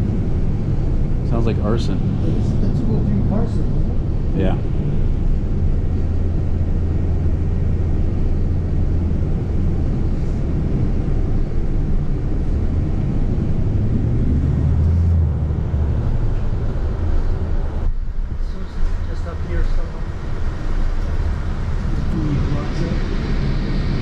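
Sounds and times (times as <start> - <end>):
bus drivetrain hum: 0.0 - 24.0
road noise rushing: 0.0 - 24.0.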